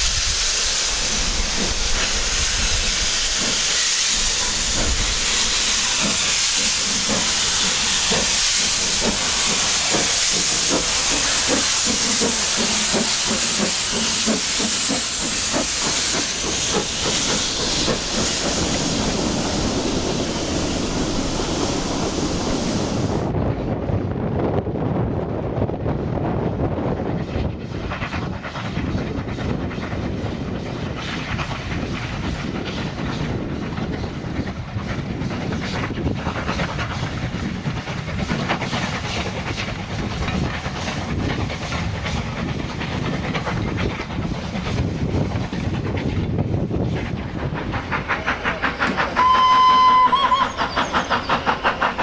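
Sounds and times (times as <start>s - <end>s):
steam hissing: 0.0s - 23.3s, 27.1s - 52.0s
steam locomotive chuffing: 0.0s - 23.4s, 26.1s - 52.0s.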